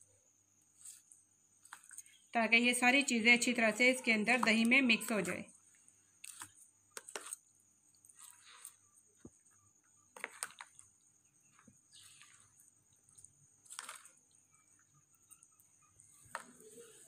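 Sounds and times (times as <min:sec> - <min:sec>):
spoon stirring yogurt in tray: 0:00.6 - 0:17.0.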